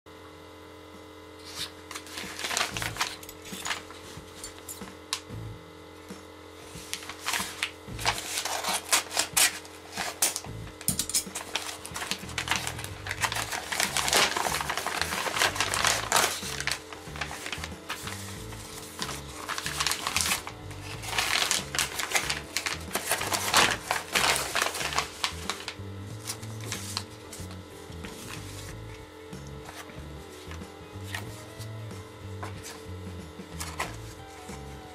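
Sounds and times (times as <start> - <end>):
faint hum: 0.1 - 34.9
padded envelope crinkling: 1.4 - 4.7, 6.6 - 28.8, 29.6 - 31.7, 33.6 - 34.6
background music with bass: 2.7 - 8.3, 10.4 - 34.9.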